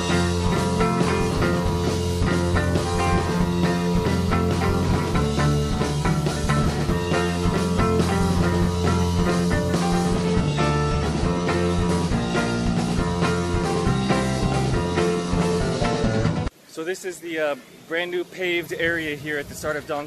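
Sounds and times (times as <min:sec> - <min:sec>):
rock music: 0:00.0 - 0:16.5.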